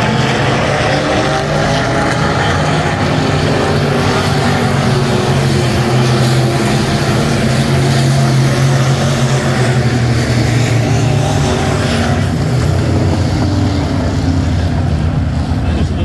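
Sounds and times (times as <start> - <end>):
race car engines droning: 0.0 - 16.0.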